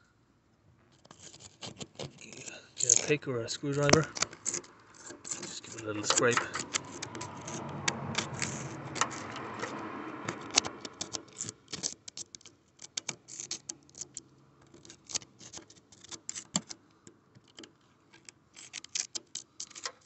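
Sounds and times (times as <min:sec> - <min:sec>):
screwdriver scraping rusty metal: 0:00.9 - 0:16.8, 0:17.4 - 0:20.0.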